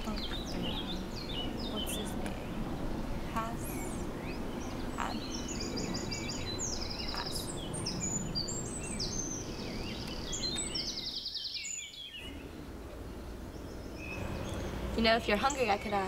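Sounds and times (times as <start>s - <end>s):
low outdoor background noise: 0.0s - 16.0s
songbirds chirping and trilling: 0.0s - 16.0s.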